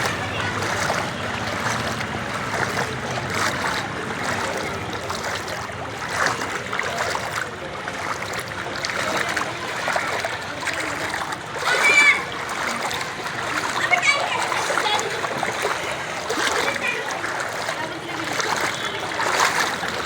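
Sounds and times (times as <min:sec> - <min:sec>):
rushing floodwater: 0:00.0 - 0:20.0.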